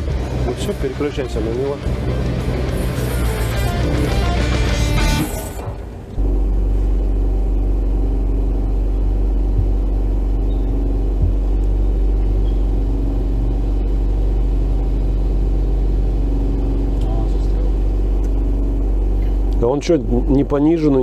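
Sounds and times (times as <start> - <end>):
all-terrain vehicle engine running: 0.0 - 21.0.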